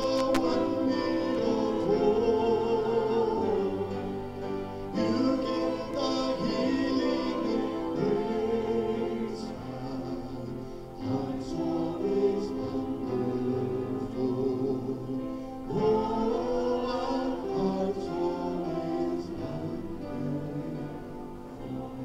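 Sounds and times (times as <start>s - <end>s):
congregation singing a hymn: 0.0s - 22.0s
sustained instrumental accompaniment: 0.0s - 22.0s.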